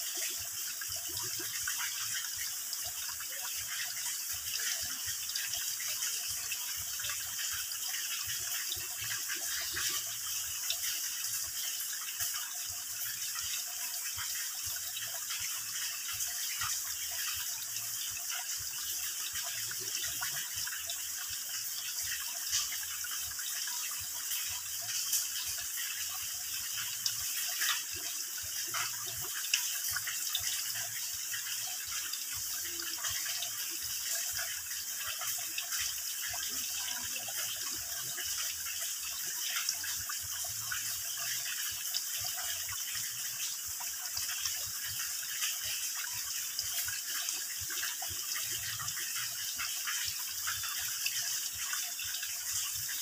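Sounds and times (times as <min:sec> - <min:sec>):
water drip ticks: 0:00.0 - 0:53.0
water trickling into pool: 0:00.0 - 0:53.0.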